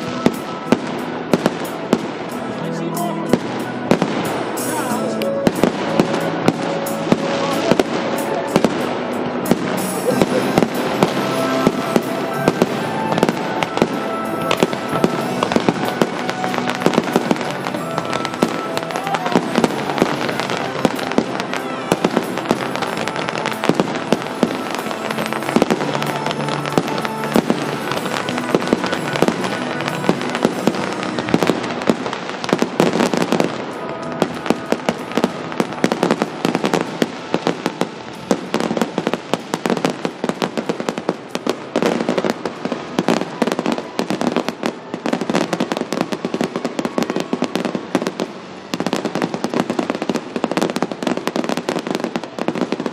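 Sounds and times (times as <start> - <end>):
fireworks bursts and crackling: 0.0 - 52.9
music: 0.0 - 52.9.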